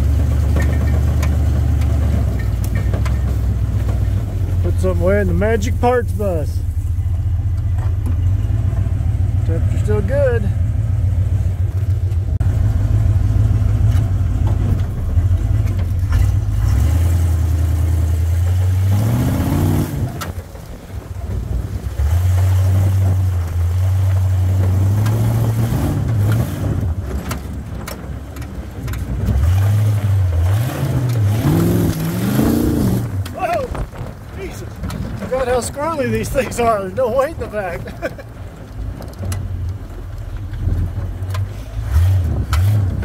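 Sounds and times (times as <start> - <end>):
engine running under load: 0.0 - 43.0.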